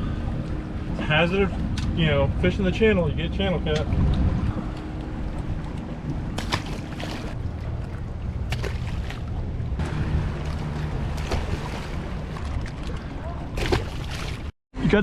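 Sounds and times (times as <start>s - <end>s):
wind buffeting microphone: 0.0s - 14.5s
low rumble of boat: 0.0s - 15.0s.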